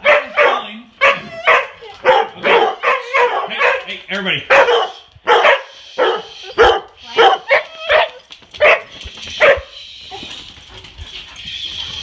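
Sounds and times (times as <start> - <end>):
dog barking: 0.0 - 9.7.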